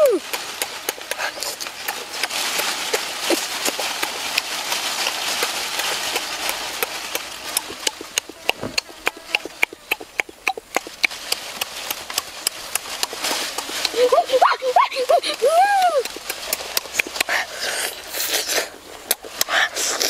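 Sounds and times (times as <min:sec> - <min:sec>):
wet chewing and lip-smacking: 0:00.0 - 0:20.0.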